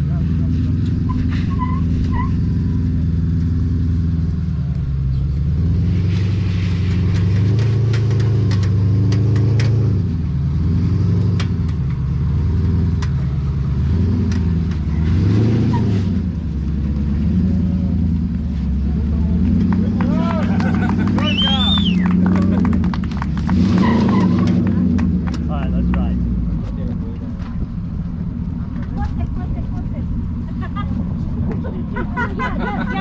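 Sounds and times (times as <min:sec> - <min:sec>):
car engine at low revs: 0:00.0 - 0:33.0.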